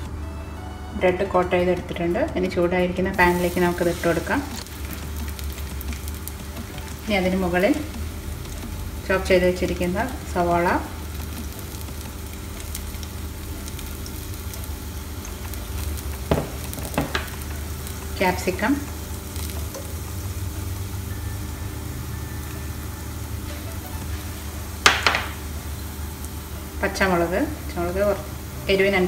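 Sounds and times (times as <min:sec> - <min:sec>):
bread sizzling in a pan: 0:03.0 - 0:29.0.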